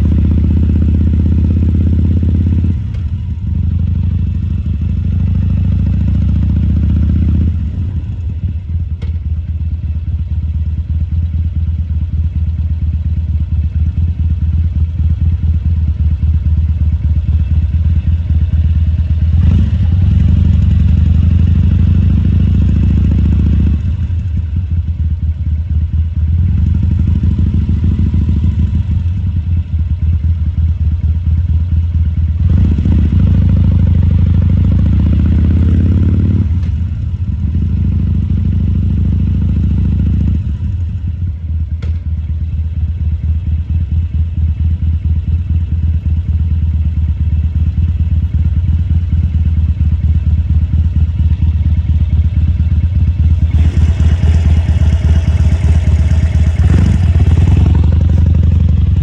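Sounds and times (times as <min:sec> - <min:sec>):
motorcycle engine revving: 0:00.0 - 0:09.2, 0:11.5 - 0:41.2, 0:43.0 - 0:59.0.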